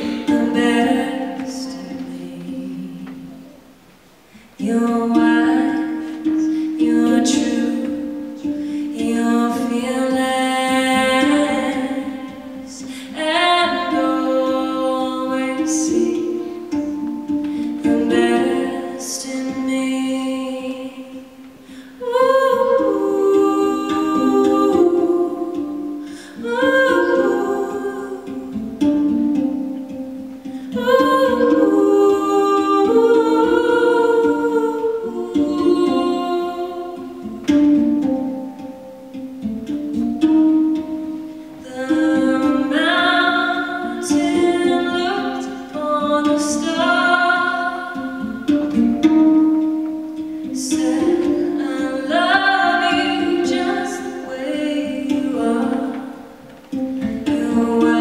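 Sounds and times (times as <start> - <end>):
woman singing: 0.0 - 3.7, 4.4 - 39.2, 41.6 - 58.0.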